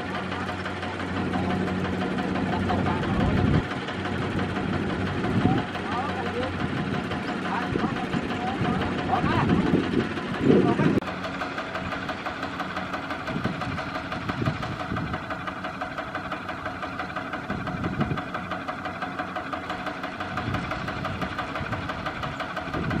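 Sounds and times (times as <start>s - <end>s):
diesel tractor engine chugging: 0.0s - 23.0s.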